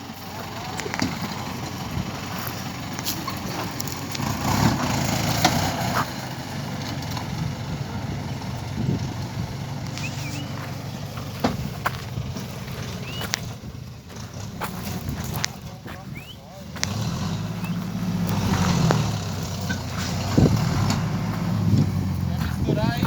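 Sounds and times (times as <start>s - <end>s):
vehicle engine running at low revs: 0.0s - 23.0s.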